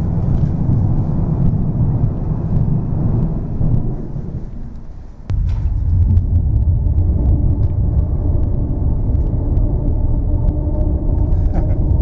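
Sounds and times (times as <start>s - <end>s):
deep rumble: 0.0s - 12.0s.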